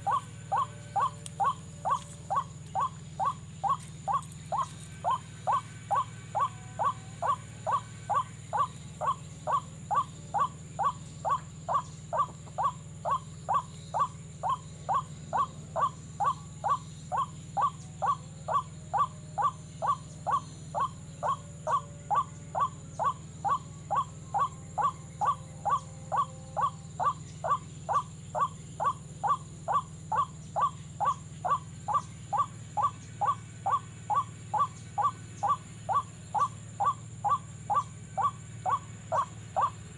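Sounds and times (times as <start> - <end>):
bird call repeated: 0.0 - 39.8
steady low hum: 0.0 - 39.9.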